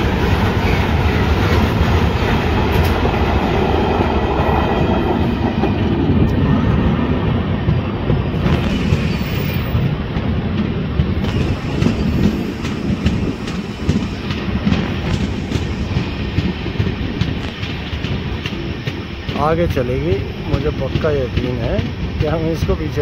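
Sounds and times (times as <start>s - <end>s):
train running noise: 0.0s - 23.0s
train wheels clickety-clack: 0.0s - 23.0s.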